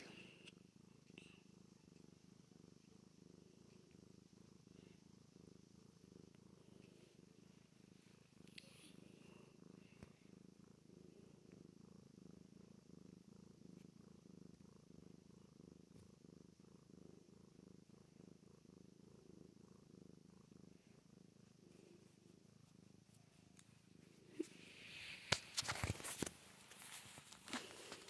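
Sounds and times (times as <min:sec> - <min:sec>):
cat purring faintly: 0:00.0 - 0:28.0.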